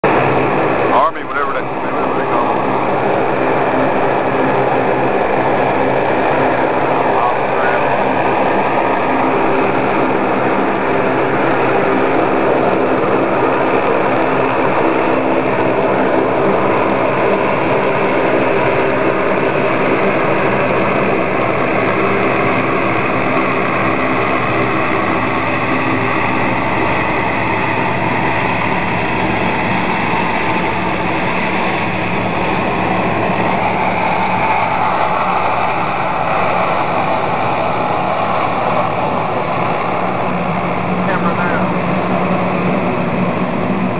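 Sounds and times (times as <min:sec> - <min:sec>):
large engine humming: 0:00.0 - 0:43.9.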